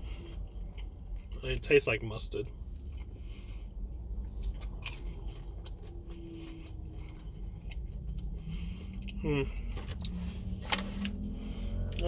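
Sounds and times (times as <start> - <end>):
person chewing: 0.0 - 1.6, 2.4 - 12.0
low steady rumble: 0.0 - 12.0.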